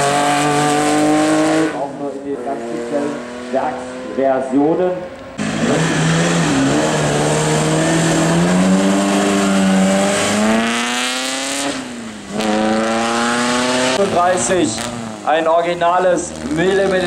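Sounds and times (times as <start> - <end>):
racing car engine accelerating: 0.0 - 4.5, 5.2 - 17.0.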